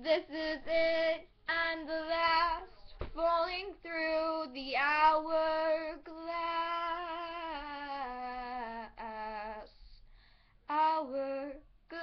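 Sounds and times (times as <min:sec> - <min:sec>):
girl singing unaccompanied: 0:00.0 - 0:09.8, 0:10.7 - 0:12.0.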